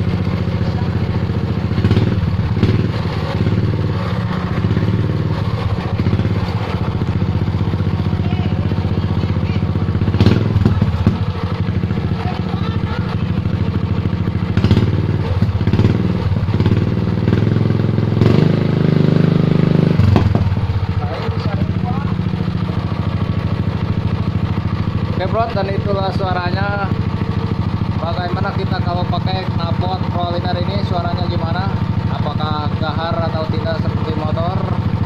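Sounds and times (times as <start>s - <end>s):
small engine rapid exhaust beat: 0.0s - 35.0s.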